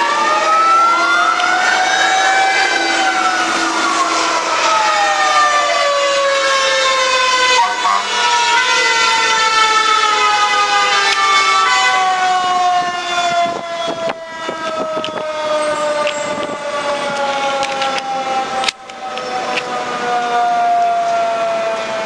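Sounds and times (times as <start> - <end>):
mechanical siren winding down: 0.0 - 19.7.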